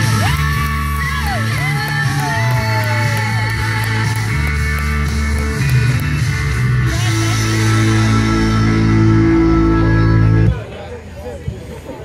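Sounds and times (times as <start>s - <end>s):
loud rock music: 0.0s - 10.6s.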